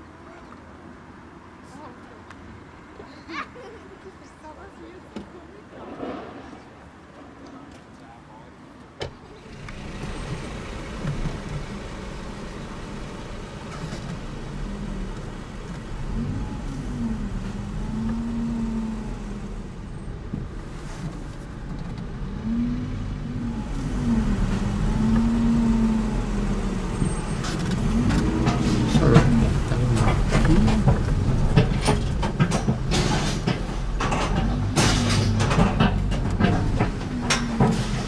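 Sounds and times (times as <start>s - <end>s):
car engine rumbling: 4.0s - 38.0s.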